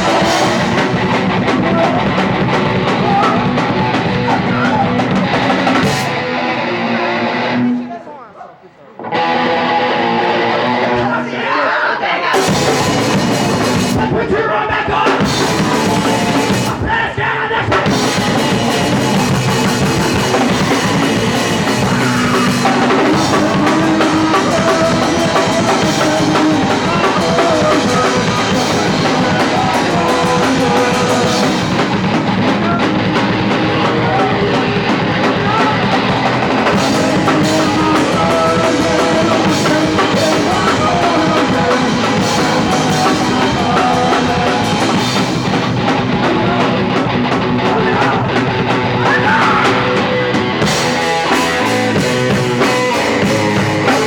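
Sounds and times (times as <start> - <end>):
punk rock band playing: 0.0 - 8.1, 8.9 - 54.0.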